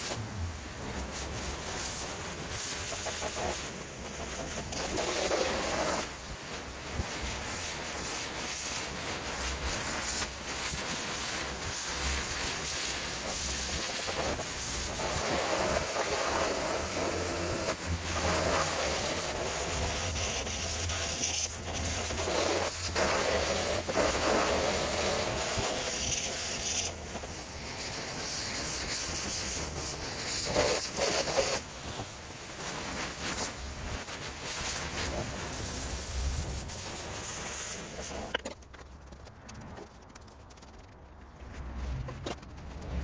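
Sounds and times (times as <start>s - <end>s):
pressure washer jet spraying: 1.0s - 38.4s.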